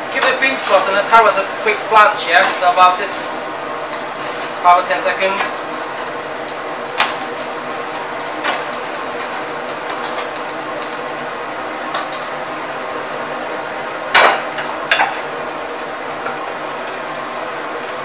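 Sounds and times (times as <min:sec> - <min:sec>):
gas burner rushing: 0:00.0 - 0:18.0.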